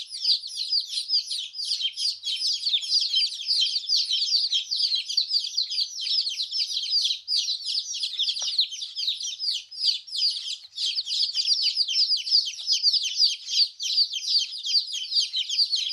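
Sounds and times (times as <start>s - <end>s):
baby chickens peeping: 0.0s - 15.9s.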